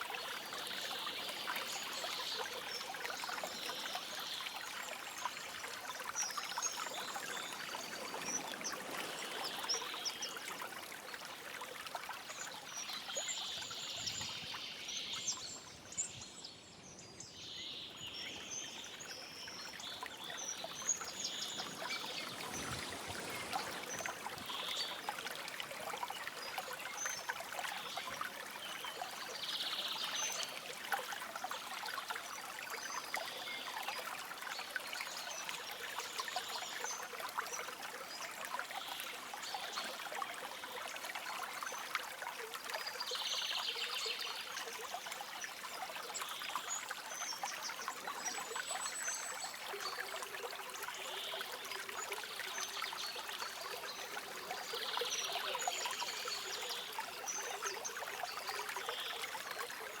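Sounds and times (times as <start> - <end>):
small stream babbling: 0.0 - 60.0.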